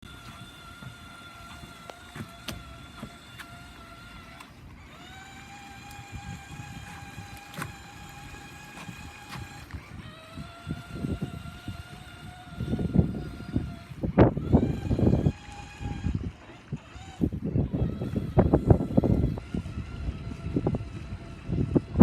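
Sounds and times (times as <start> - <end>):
small electric motor whining: 0.0 - 22.0.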